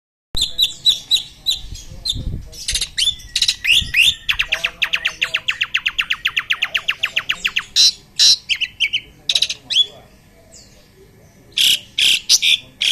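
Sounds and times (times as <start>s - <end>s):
songbirds singing chirps and whistles: 0.4s - 12.9s.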